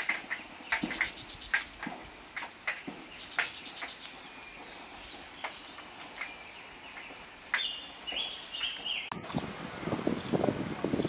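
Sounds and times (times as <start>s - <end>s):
songbirds chipping and whistling: 0.0s - 11.0s.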